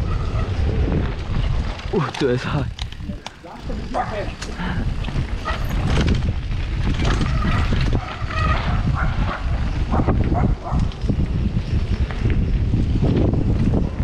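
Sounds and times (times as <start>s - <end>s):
bicycle rattling over rough trail: 0.0s - 14.0s
wind buffeting microphone: 0.0s - 14.0s.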